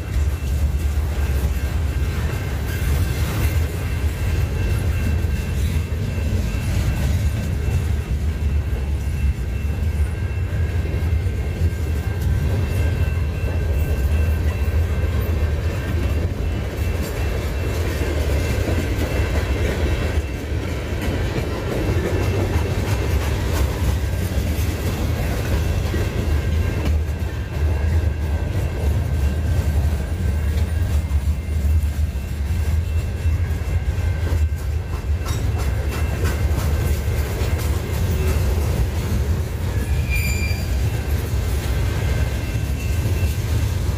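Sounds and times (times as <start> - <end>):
freight train rumbling past: 0.0 - 43.9
wheels clacking over rail joints: 0.0 - 43.9.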